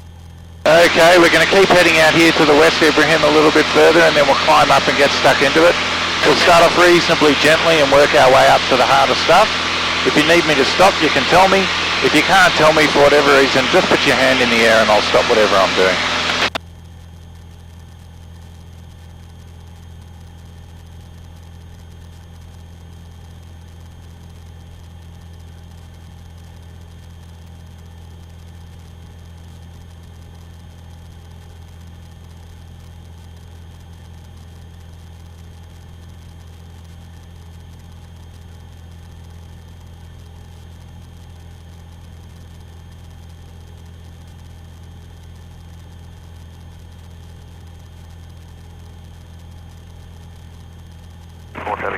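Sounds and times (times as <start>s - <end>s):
light aircraft engine drone: 0.0s - 51.9s.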